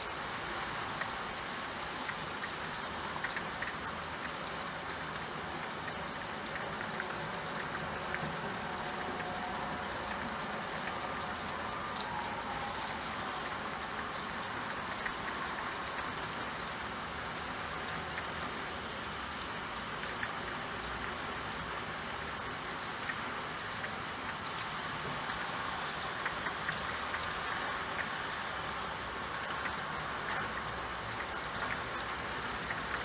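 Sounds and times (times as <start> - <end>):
steady rainfall: 0.0 - 33.0.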